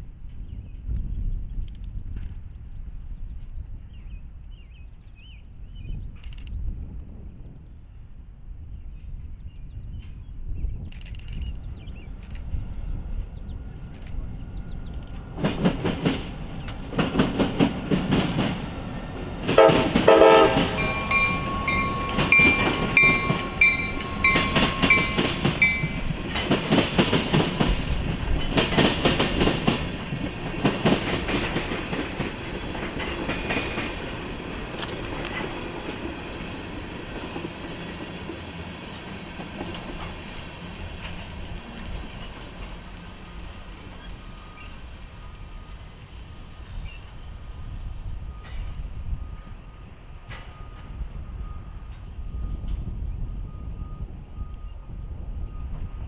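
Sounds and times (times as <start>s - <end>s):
rumble of passing train: 0.0s - 56.0s
train wheels clanking over crossing: 10.9s - 56.0s.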